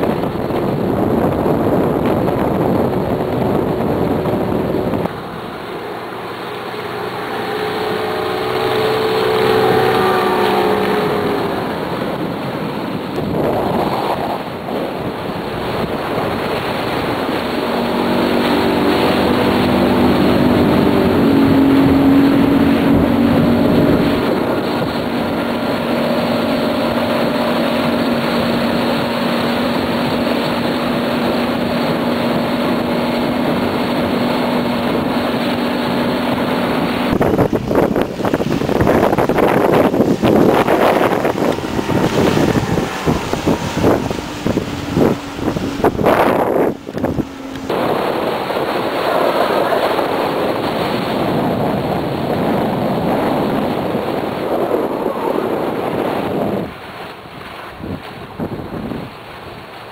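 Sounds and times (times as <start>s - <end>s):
outboard motor running at speed: 0.0s - 59.9s
rushing water: 0.0s - 59.9s
wind on microphone: 0.0s - 59.9s.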